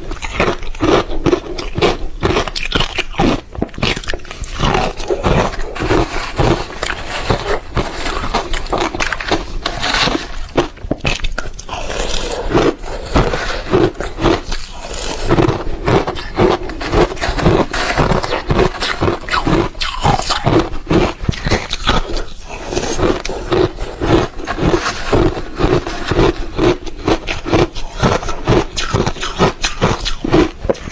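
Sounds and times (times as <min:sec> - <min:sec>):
ice being chewed crunching: 0:00.0 - 0:30.9.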